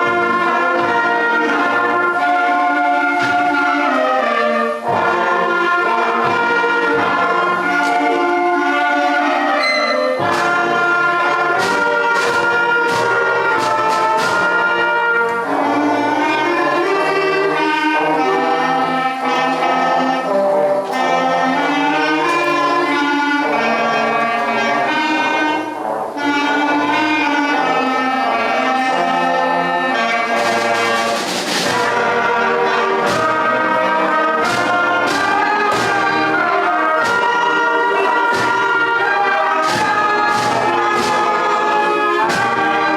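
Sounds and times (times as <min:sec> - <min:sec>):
concert band playing: 0:00.0 - 0:42.9.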